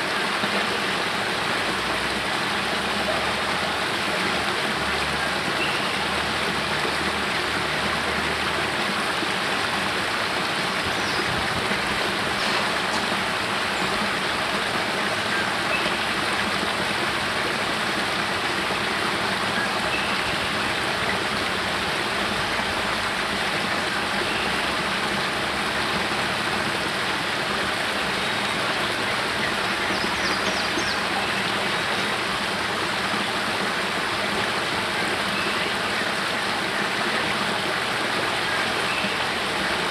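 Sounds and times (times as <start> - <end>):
water cascading over rocks: 0.0 - 39.9.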